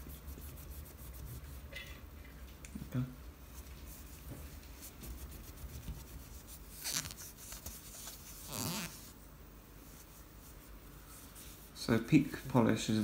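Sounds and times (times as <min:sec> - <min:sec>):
cloth rubbing on silver spoon: 0:00.0 - 0:01.7, 0:03.6 - 0:09.2, 0:09.8 - 0:13.0.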